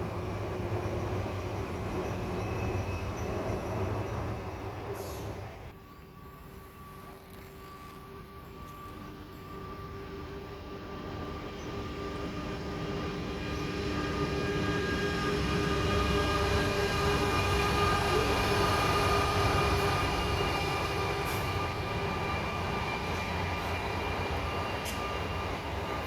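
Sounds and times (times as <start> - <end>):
steady whining tones: 0.0 - 26.0
train passing: 0.0 - 26.0.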